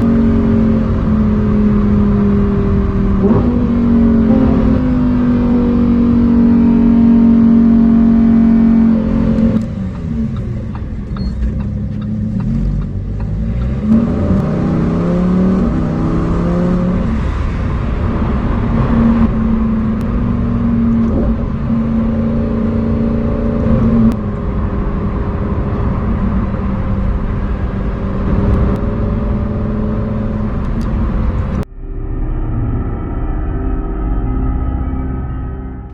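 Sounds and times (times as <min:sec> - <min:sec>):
sports car engine revving hard: 0:00.0 - 0:31.7.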